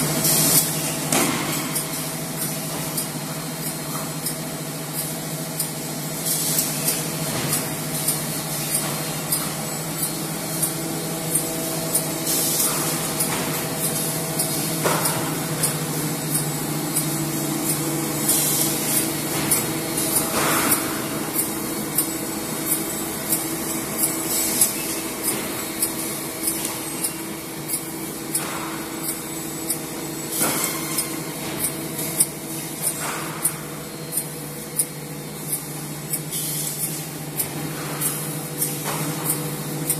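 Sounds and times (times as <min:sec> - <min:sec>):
machine motor hum: 0:00.0 - 0:39.9
regular machine clicking: 0:01.5 - 0:39.9.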